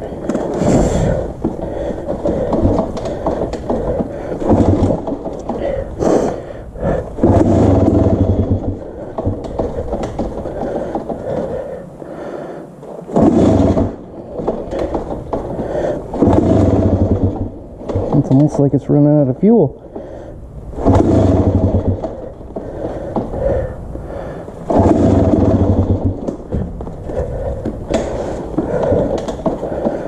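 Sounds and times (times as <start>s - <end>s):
motorcycle engine surging unevenly: 0.0s - 11.7s, 13.2s - 19.7s, 20.6s - 30.0s.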